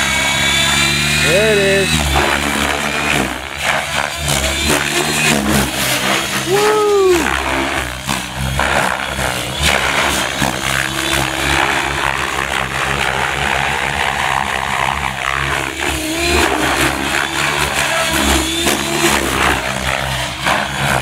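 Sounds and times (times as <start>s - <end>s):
humming drive: 0.0s - 21.0s
rotor blades whooshing: 0.0s - 21.0s.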